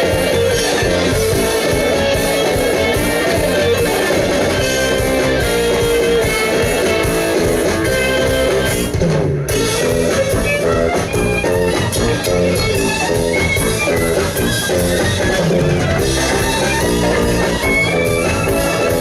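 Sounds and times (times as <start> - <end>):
strummed guitar: 0.0 - 19.0.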